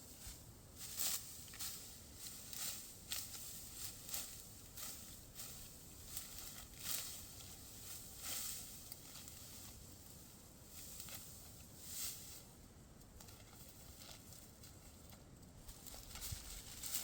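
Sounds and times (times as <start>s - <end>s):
dry wheat stalks rustling: 0.0s - 17.0s.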